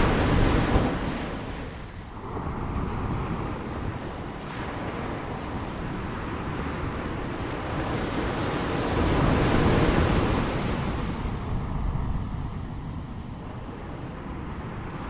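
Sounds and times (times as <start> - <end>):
waves rushing and breaking: 0.0 - 15.0
wind noise: 0.0 - 15.0.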